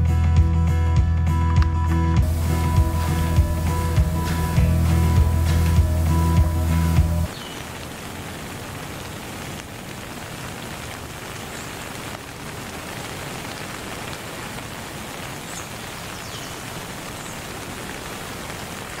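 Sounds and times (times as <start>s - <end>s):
steady rain hiss: 2.2s - 19.0s.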